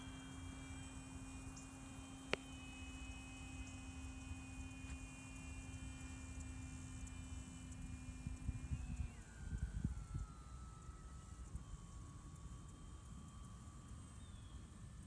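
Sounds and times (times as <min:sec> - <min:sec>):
distant model airplane motor whine: 0:00.0 - 0:15.0
steady low hum: 0:00.0 - 0:15.0.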